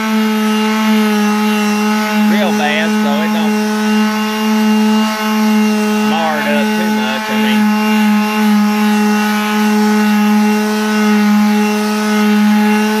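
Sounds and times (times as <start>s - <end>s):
orbital sander whining: 0.0s - 13.0s.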